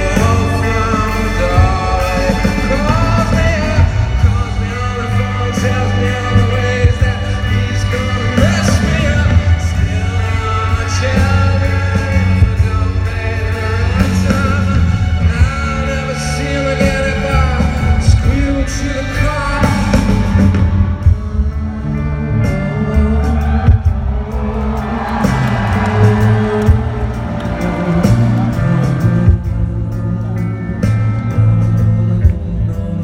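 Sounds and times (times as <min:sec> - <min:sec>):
live rock band playing: 0:00.0 - 0:33.0
man singing lead vocal: 0:00.0 - 0:33.0.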